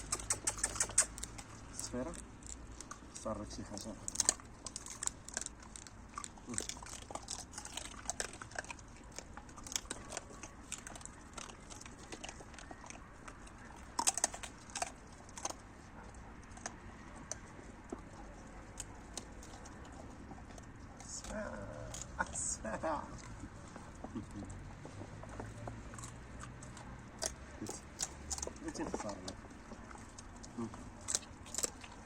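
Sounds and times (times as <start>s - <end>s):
dogs crunching food: 0.0s - 32.0s.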